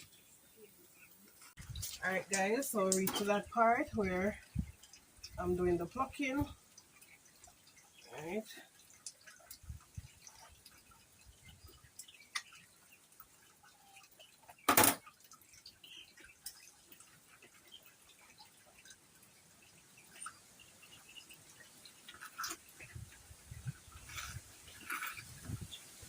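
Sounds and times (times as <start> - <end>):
wet clicks and drips: 1.2 - 25.7.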